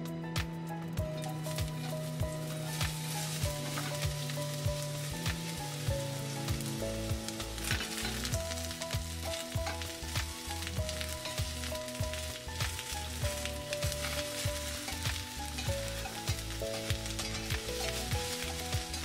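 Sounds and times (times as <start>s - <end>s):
background music with steady beat: 0.0s - 19.0s
onions sizzling in hot oil: 1.0s - 19.0s.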